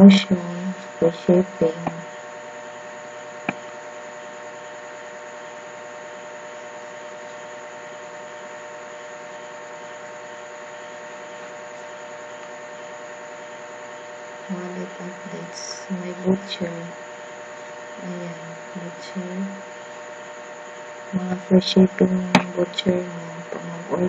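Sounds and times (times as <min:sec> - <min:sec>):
electrical hum with hiss: 0:00.0 - 0:24.0.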